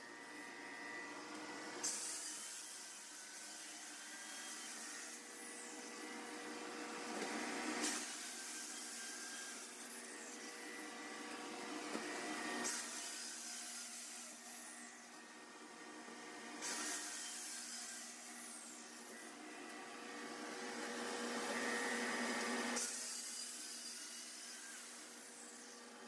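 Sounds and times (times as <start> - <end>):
saw motor whine: 0.0 - 26.0.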